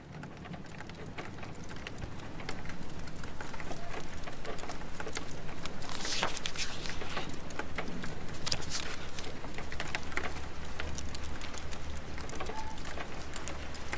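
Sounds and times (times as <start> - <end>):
steady rain: 0.0 - 13.9
wood fire crackling and popping: 0.0 - 13.9.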